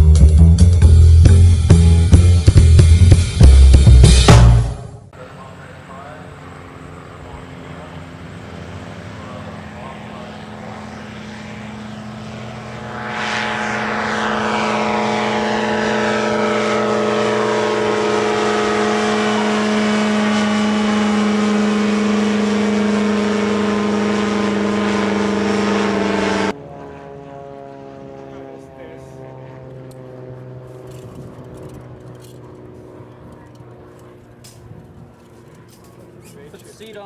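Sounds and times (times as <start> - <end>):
ultralight aircraft engine and propeller: 5.1 - 37.0
sweeping hiss of passing aircraft: 5.2 - 37.0.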